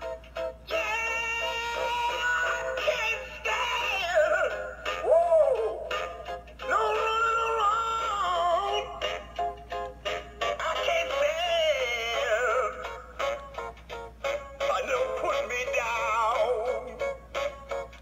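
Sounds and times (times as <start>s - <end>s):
song from small speaker: 0.0s - 18.0s.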